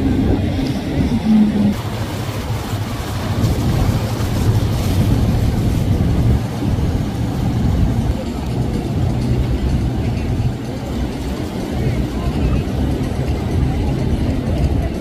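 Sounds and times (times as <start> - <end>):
water rushing: 0.0 - 15.0
yacht engines running: 0.0 - 15.0.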